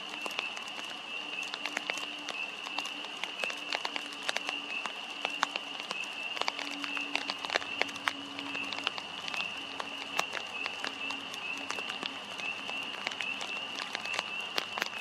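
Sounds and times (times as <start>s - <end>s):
raindrops pattering: 0.0s - 15.0s.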